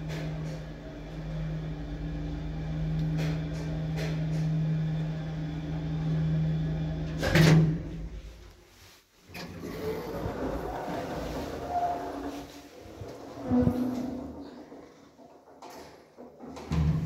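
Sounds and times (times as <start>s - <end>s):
lift electric hum: 0.0s - 17.0s.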